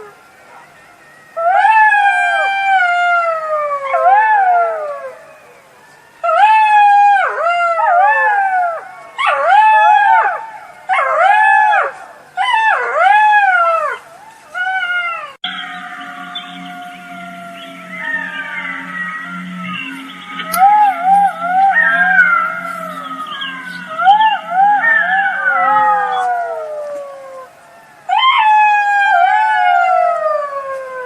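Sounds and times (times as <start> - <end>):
jackals howling: 0.0 - 31.0.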